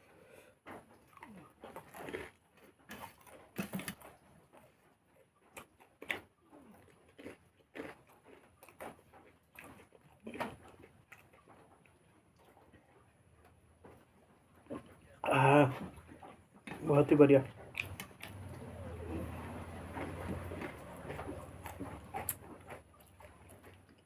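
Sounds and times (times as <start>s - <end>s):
person chewing with wet smacks: 0.6s - 24.0s.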